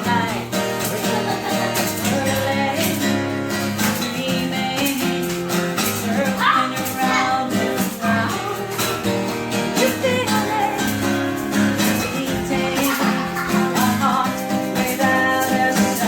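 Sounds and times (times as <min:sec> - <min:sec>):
strummed acoustic guitar: 0:00.0 - 0:16.0
woman singing: 0:00.0 - 0:16.0.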